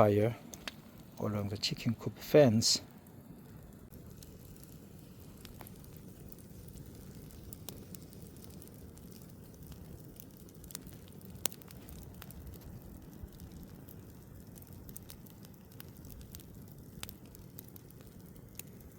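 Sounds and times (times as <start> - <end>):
bonfire crackling: 0.0 - 18.9.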